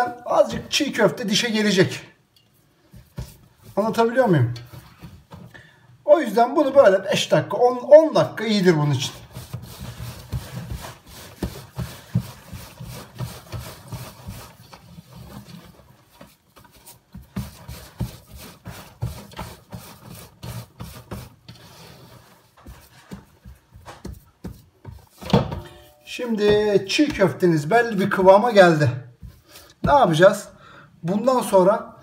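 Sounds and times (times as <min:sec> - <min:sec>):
hands kneading mixture in metal pan: 0:00.0 - 0:32.0.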